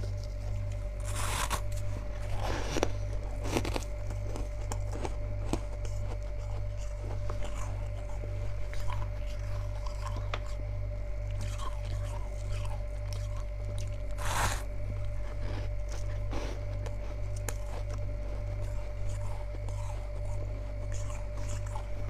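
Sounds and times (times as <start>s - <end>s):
frost crunching and chewing: 0.0s - 22.0s
steady low hum: 0.0s - 22.0s.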